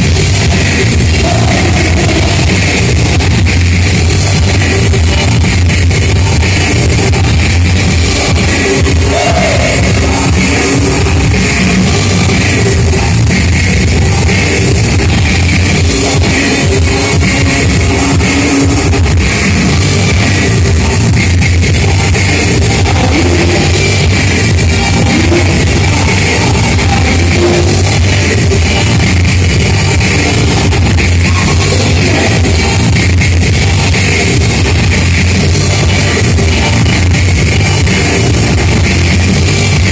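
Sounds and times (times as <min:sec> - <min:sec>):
person singing: 0:00.0 - 0:21.1, 0:21.8 - 0:35.1
loud rock music: 0:00.0 - 0:39.9.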